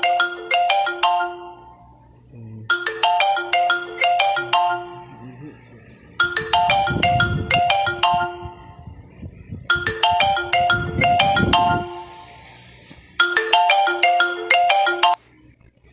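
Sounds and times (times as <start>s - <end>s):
marimba phone ringtone: 0.0s - 15.2s.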